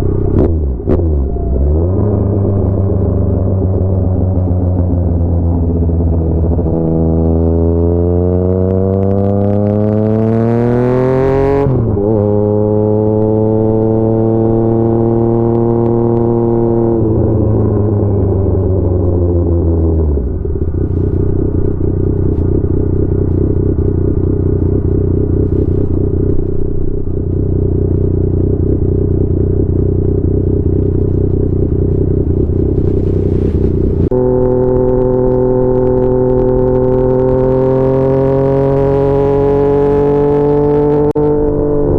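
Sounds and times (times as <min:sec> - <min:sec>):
motorcycle accelerating: 0:00.0 - 0:41.9.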